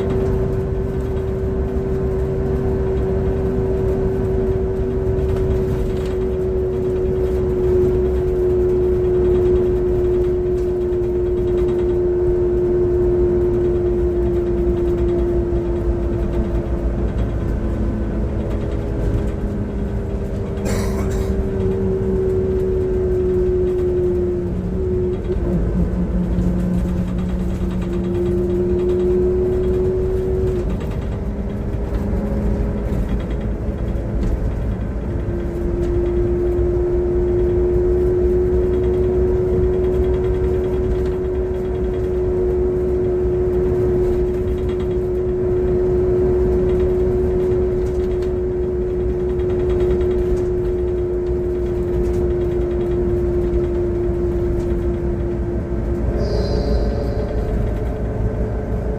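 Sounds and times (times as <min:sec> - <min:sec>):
bus engine rumble and whine: 0:00.0 - 0:58.9.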